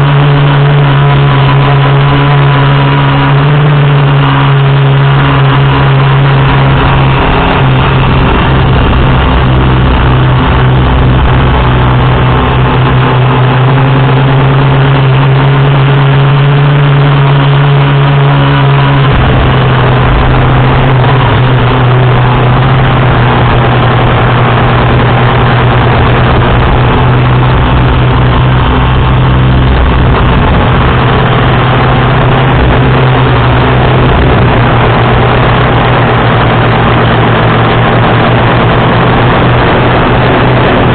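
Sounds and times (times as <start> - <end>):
drone motors and propellers humming: 0.0 - 40.9.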